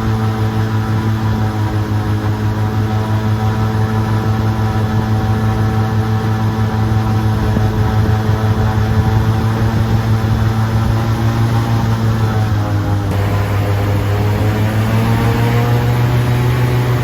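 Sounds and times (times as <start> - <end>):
airboat engine and propeller drone: 0.0 - 17.0.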